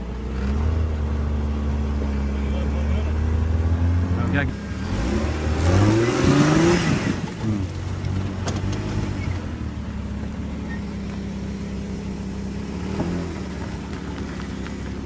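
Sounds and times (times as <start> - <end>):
engine revving under load: 0.0 - 15.0
engine running at low revs: 0.0 - 15.0.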